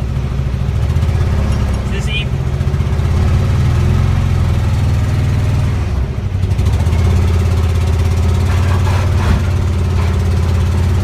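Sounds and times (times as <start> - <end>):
car engine driving off: 0.0 - 11.0.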